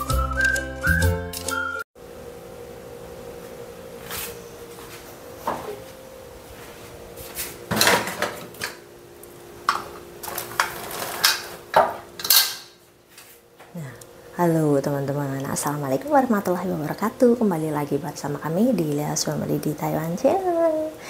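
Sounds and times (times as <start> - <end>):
steady hum: 2.0 - 21.0.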